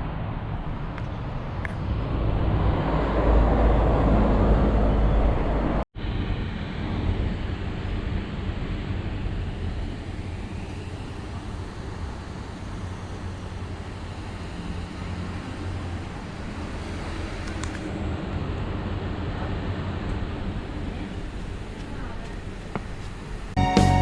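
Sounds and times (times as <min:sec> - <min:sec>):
wind rumbling on microphone: 0:00.0 - 0:23.5
steady road noise: 0:00.0 - 0:24.0.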